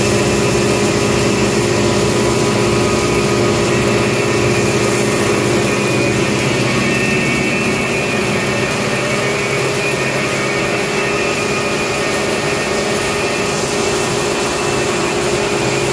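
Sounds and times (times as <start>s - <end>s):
pulverizer grinding grain: 0.0s - 15.9s.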